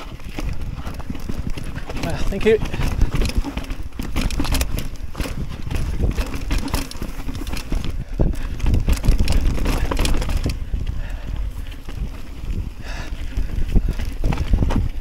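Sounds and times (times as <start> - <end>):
bike knocking and rattling: 0.0 - 15.0
tyres on stone and gravel: 0.0 - 15.0.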